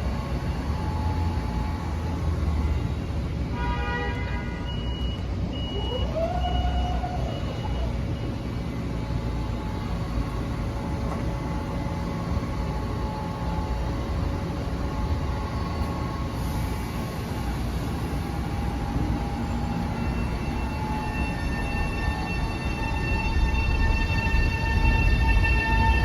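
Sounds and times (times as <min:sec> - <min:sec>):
faint whining tones: 0:00.0 - 0:03.6, 0:04.5 - 0:26.0
train rumbling: 0:00.0 - 0:26.0.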